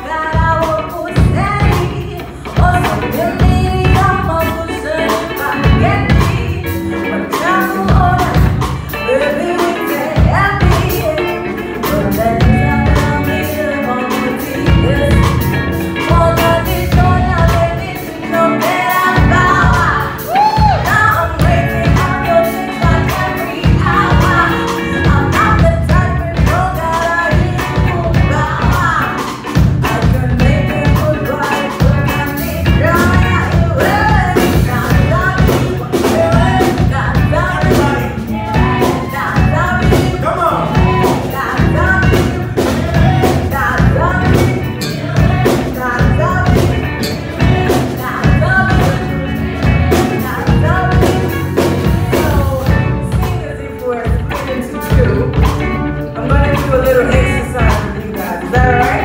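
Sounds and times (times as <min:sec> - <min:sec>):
drum kit beat: 0:00.0 - 0:59.0
electric bass: 0:00.0 - 0:59.0
electric guitar: 0:00.0 - 0:59.0
woman singing into a microphone: 0:00.0 - 0:59.0.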